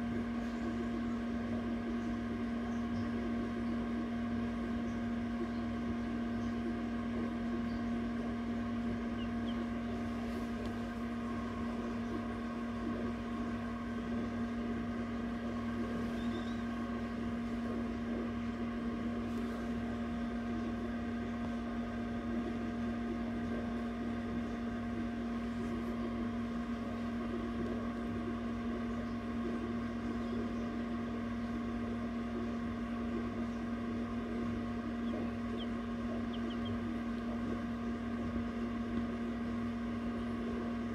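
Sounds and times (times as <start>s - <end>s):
fan motor humming: 0.0s - 40.9s.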